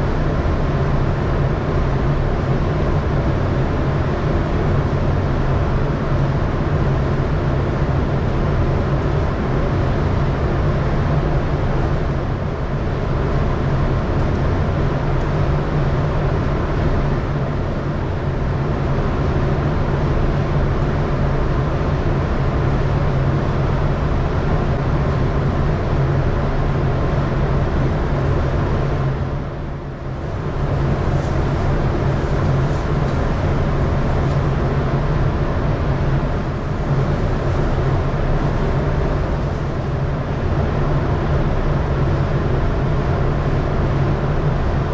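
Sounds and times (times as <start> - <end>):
mechanical drone with low hum: 0.0 - 44.9.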